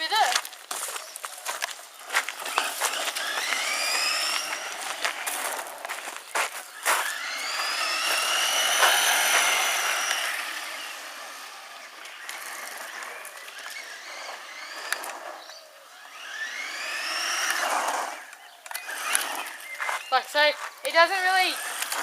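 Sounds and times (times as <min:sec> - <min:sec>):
electric motor and gears whining: 0:00.0 - 0:22.0.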